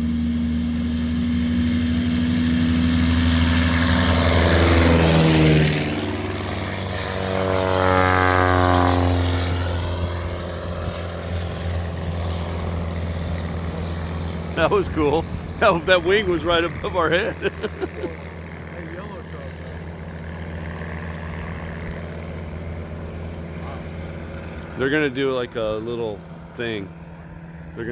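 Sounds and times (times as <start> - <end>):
propeller planes passing overhead: 0.0 - 27.9
steady low hum: 0.0 - 27.9.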